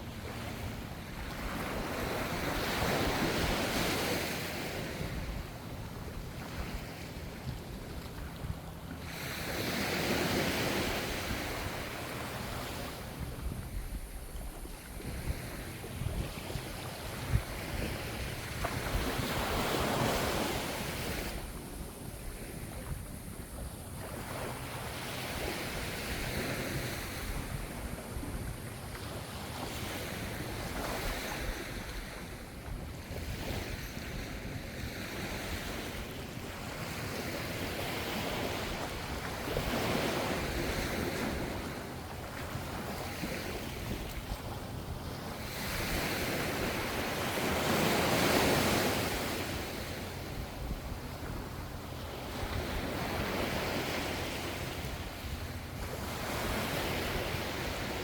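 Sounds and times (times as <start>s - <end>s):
ocean waves breaking on shore: 0.0s - 58.0s
wind buffeting microphone: 0.0s - 58.0s.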